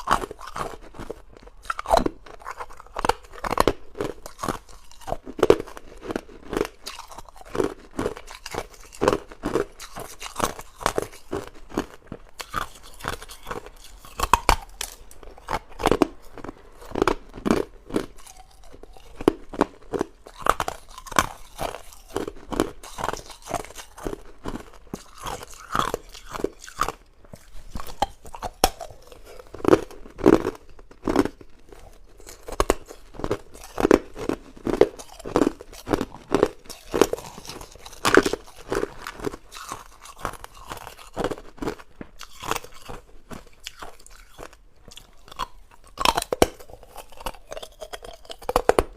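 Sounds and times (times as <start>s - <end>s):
person crunching ice cubes: 0.0s - 48.9s.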